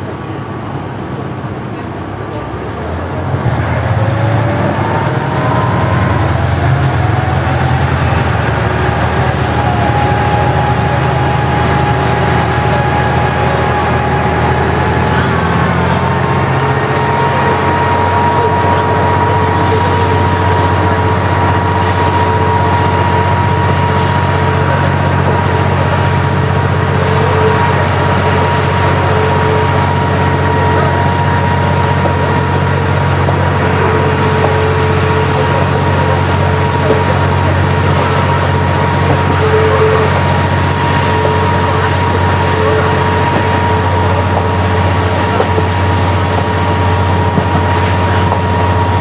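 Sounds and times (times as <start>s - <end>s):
diesel railcar engine running hard: 0.0s - 49.0s.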